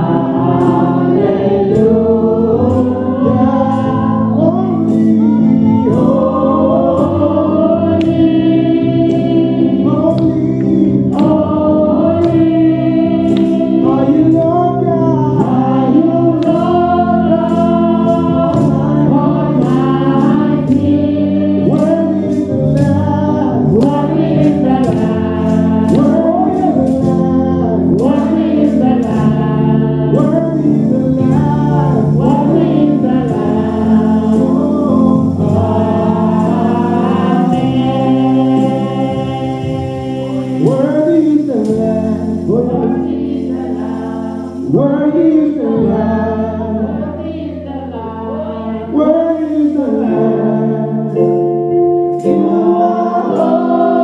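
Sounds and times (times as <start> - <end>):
electronic keyboard chords: 0.0 - 54.0
people singing gospel with vibrato: 0.0 - 54.0.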